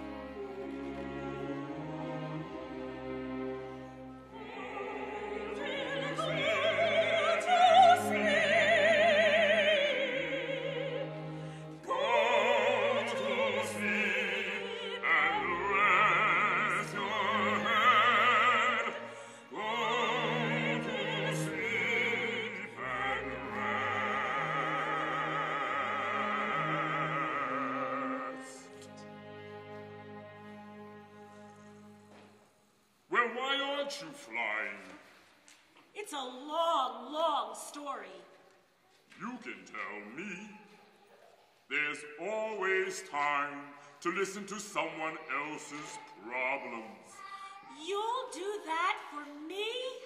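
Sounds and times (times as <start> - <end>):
operatic singing with vibrato: 0.0 - 35.2, 39.2 - 41.0, 41.6 - 50.0.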